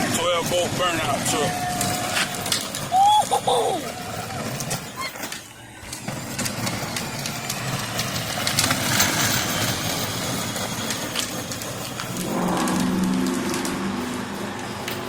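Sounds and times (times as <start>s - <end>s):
ride-on toy truck driving: 0.0s - 15.0s.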